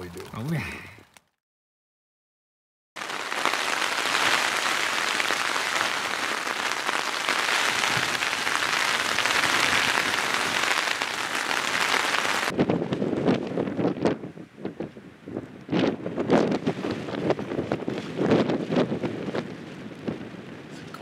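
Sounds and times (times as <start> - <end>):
rain on a canvas tent: 0.0 - 1.0, 3.0 - 21.0.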